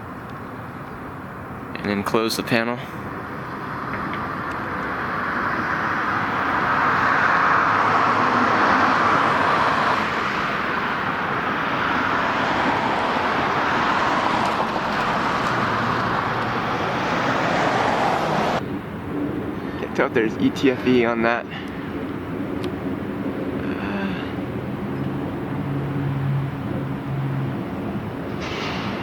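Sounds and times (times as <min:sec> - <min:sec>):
rushing vehicle noise: 0:00.0 - 0:29.0.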